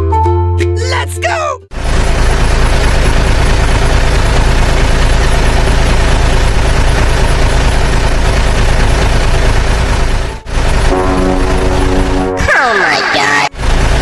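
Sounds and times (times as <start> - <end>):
heavy engine rumbling: 1.7 - 14.0.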